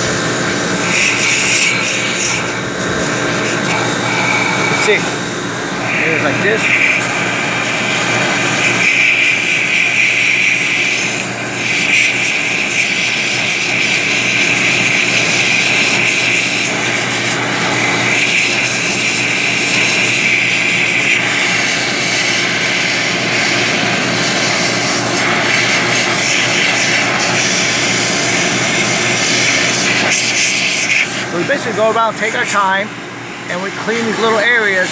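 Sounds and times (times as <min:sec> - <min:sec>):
machinery humming: 0:00.0 - 0:34.9
water spray hissing: 0:00.8 - 0:05.1, 0:05.9 - 0:31.3.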